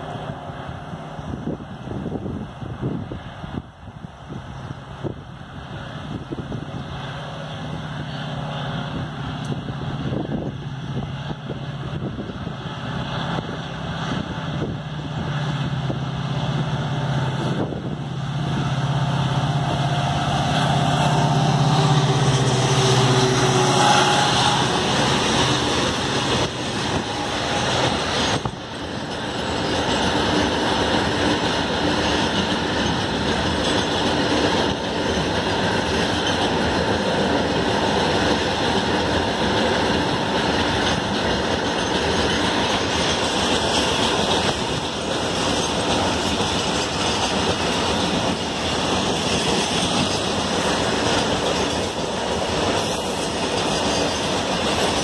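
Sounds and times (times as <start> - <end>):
diesel locomotive engine drone: 0.0 - 55.0
train wagons rumbling on rails: 0.0 - 55.0.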